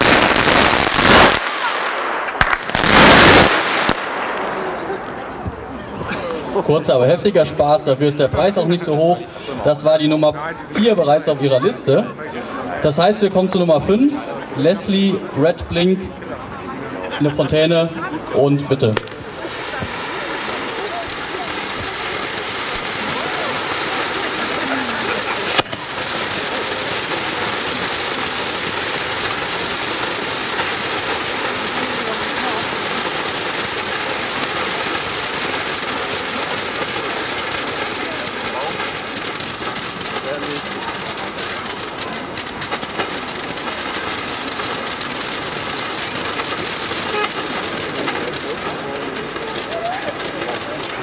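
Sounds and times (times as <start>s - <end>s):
firework fountains hissing: 0.0s - 15.5s, 16.2s - 51.0s.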